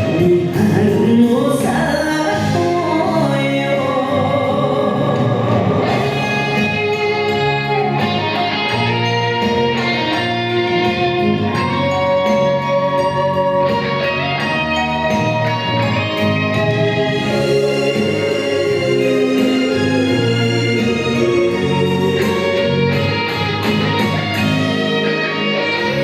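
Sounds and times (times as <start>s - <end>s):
instrumental music with plucked strings: 2.4s - 26.0s.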